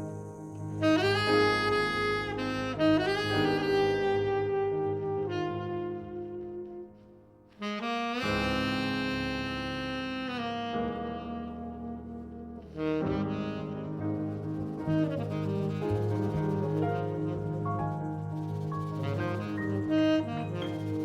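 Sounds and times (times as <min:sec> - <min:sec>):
jazz band accompaniment: 0:00.0 - 0:21.0
tenor saxophone long notes: 0:00.0 - 0:21.0.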